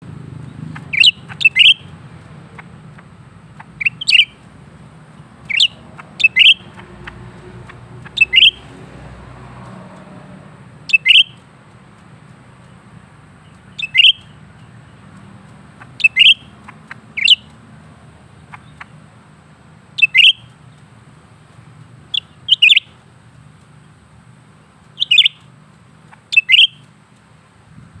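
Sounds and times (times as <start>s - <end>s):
bird calling with sharp chirps: 0.3s - 10.1s, 10.8s - 27.5s.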